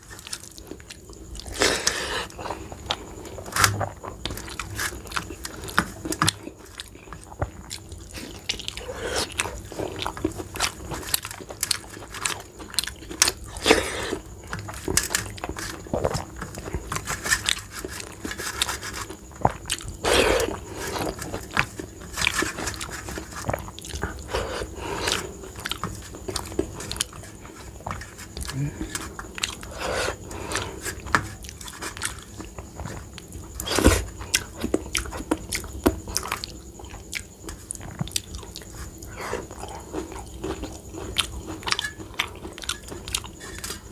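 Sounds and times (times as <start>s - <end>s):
person chewing: 0.2s - 43.9s.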